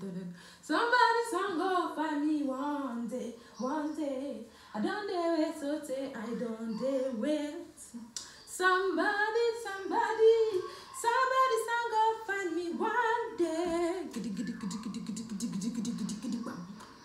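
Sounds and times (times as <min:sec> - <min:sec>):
woman singing unaccompanied: 0:00.0 - 0:16.8.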